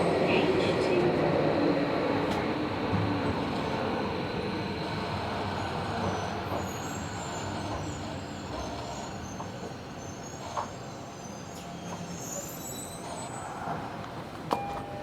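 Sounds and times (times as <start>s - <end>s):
subway train interior rumble: 0.0s - 15.0s.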